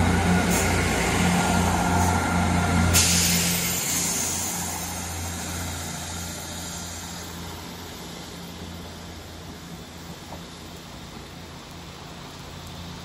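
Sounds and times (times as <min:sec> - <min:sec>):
hiss: 0:00.0 - 0:13.0
train diesel engines humming: 0:00.0 - 0:13.0.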